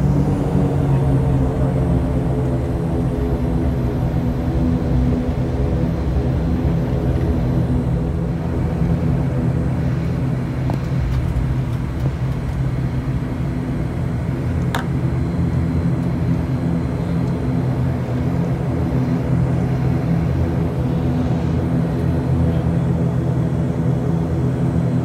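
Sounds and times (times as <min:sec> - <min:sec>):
turboprop engine drone in cabin: 0:00.0 - 0:25.0.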